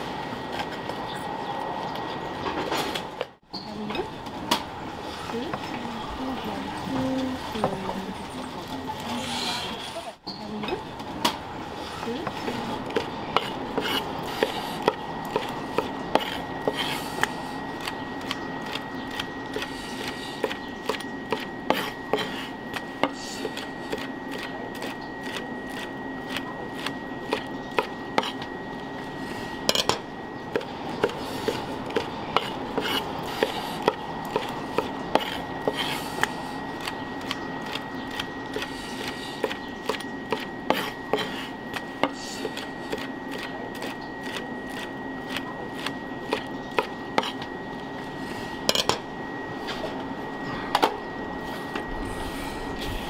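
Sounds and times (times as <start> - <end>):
background hum: 0.0 - 53.0
faint high whine: 0.0 - 53.0.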